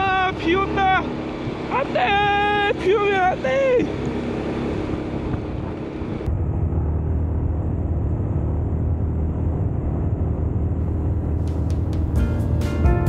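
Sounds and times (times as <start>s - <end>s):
scooter engine drone: 0.0s - 13.0s
wind and road rush: 0.0s - 13.0s.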